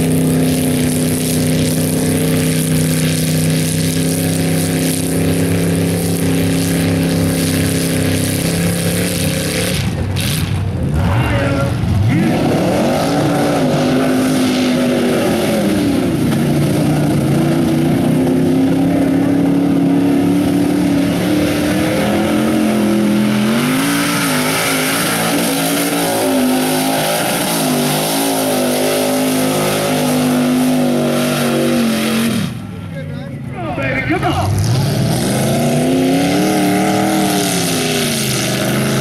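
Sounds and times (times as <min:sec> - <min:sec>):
truck engines revving hard: 0:00.0 - 0:39.0.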